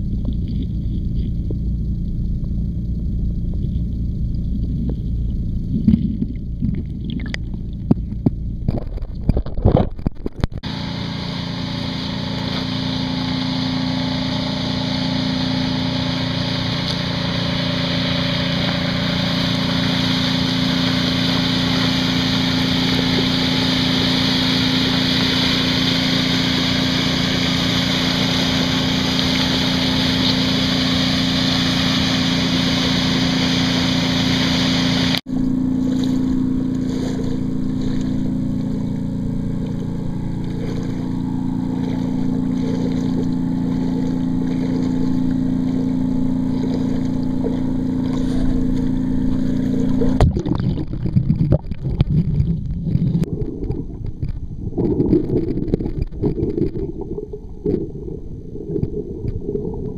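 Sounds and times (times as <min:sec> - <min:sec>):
low hum: 0:00.0 - 0:59.9
muffled underwater rumble: 0:00.0 - 0:59.9
churning water splashing: 0:02.6 - 0:59.9.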